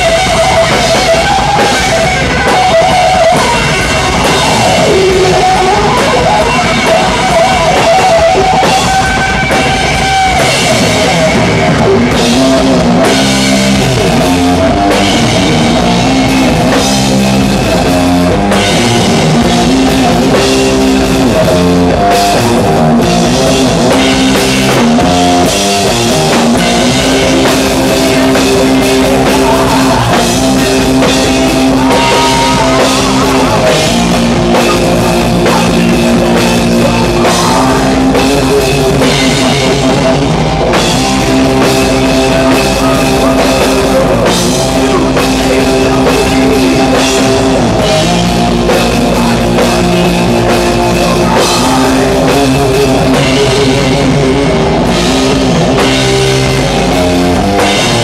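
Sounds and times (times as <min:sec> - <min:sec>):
bass guitar: 0:00.0 - 0:58.0
distorted electric guitar: 0:00.0 - 0:58.0
drum kit with crashing cymbals: 0:00.0 - 0:58.0.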